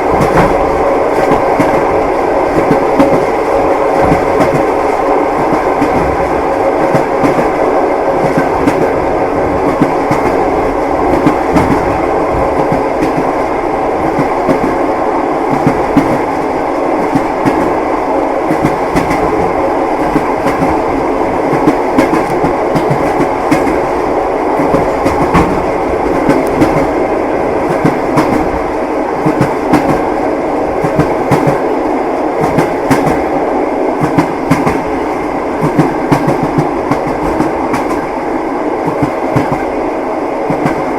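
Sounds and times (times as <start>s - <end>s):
train wheels clacking on rails: 0.0s - 39.8s, 40.4s - 40.9s
railway carriage rumble: 0.0s - 40.9s.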